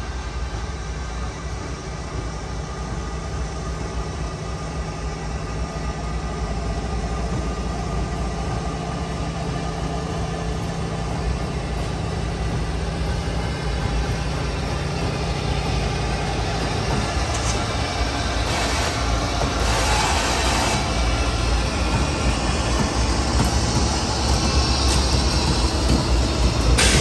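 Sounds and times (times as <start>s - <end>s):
diesel locomotive engine drone: 0.0s - 27.0s.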